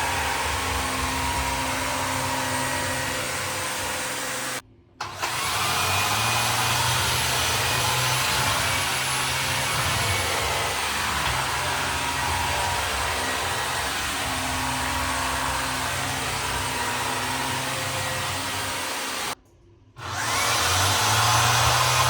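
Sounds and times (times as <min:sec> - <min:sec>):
cordless vacuum whirring: 0:00.0 - 0:19.4, 0:20.0 - 0:22.0.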